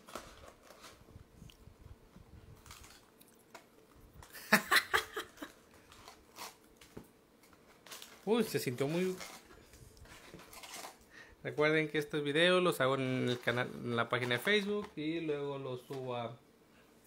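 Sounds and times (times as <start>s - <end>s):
crisp crackles of foil: 0.0s - 1.1s, 2.5s - 11.9s, 12.5s - 16.1s
foil packs rustling: 0.0s - 1.1s, 2.5s - 16.0s.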